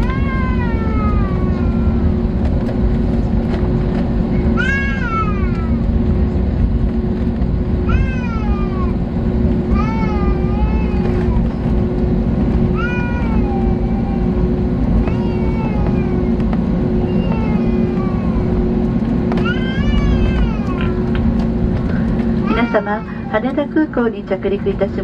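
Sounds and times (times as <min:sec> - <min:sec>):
airliner engine drone: 0:00.0 - 0:25.0
heavy runway rumble: 0:00.0 - 0:25.0.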